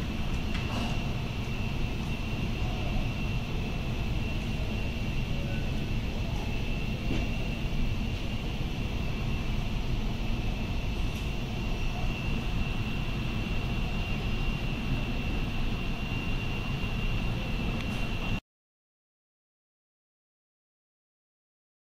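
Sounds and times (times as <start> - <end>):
high whine: 0.0 - 18.4
train running at speed: 0.0 - 18.4.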